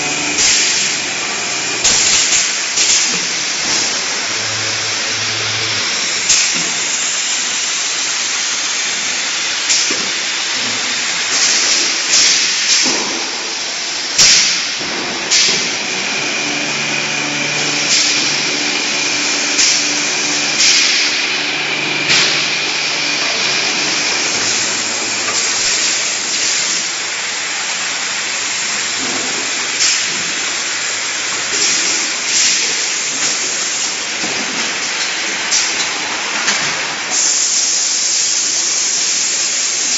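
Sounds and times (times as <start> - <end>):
compressed air hisses: 0.0 - 34.1, 37.1 - 39.9
motor hum with high whine: 0.0 - 39.9
steady machine hiss: 0.0 - 39.9.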